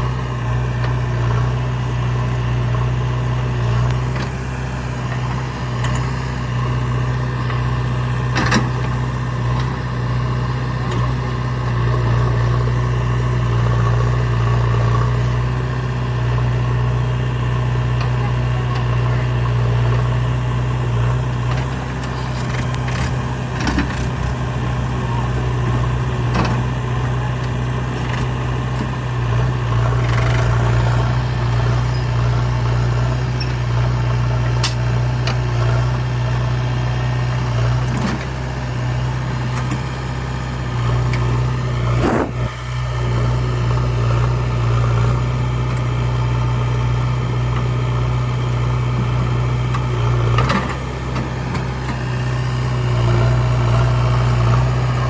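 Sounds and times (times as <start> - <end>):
heavy diesel engine humming: 0.0 - 55.0.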